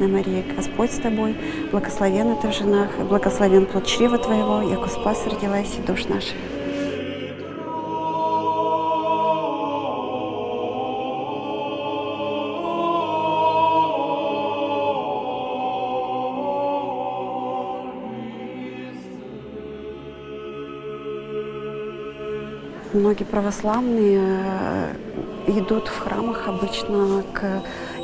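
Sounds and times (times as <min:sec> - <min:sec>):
choir singing chant: 0:00.0 - 0:28.0.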